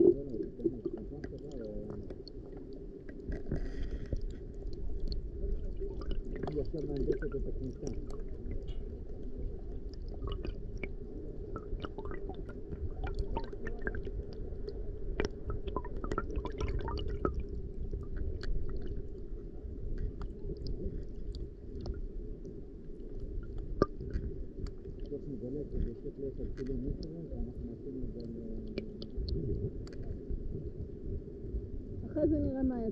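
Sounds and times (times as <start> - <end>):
faint scattered clicks and crackles: 0.0 - 32.9
underwater rumble of moving water: 0.0 - 32.9.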